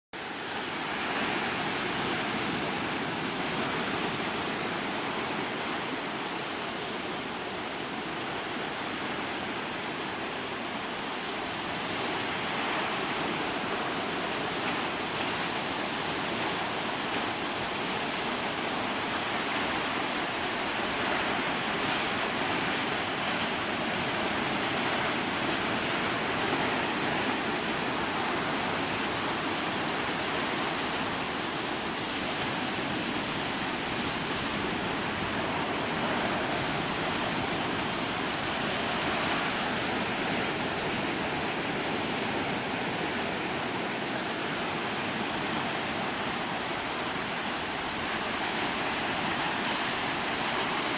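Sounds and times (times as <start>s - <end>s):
surf breaking on sandy beach: 0.2s - 50.9s.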